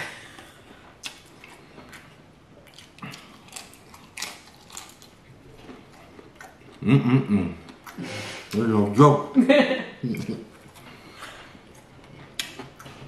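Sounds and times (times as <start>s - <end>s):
man chewing crisp bacon: 0.0s - 8.7s, 10.0s - 13.0s.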